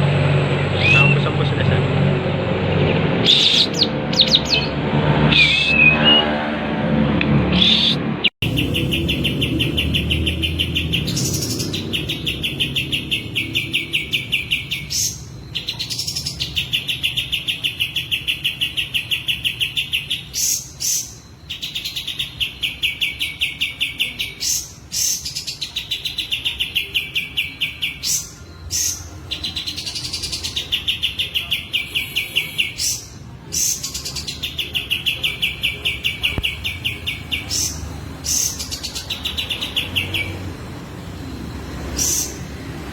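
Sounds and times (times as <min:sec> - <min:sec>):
bird singing trilled phrases: 0:00.7 - 0:01.6, 0:02.7 - 0:04.8, 0:07.6 - 0:42.7.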